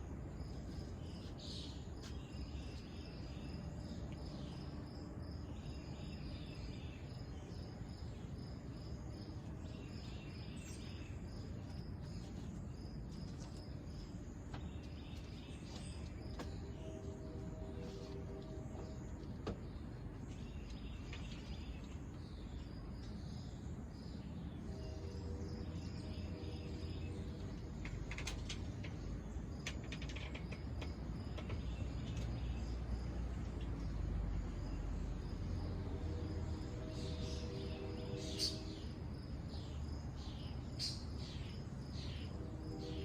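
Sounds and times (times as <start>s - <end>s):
insect calls: 0.0s - 43.0s.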